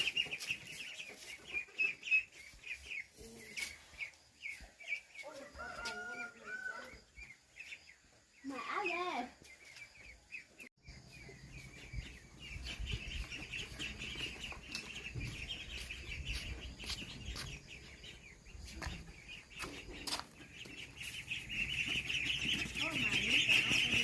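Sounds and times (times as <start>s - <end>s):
ducklings peeping: 0.0s - 24.0s.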